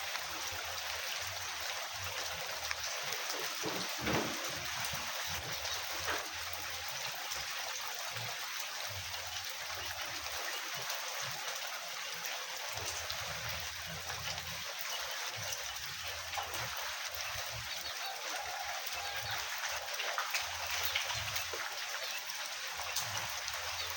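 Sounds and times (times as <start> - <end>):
rain falling: 0.0 - 23.9.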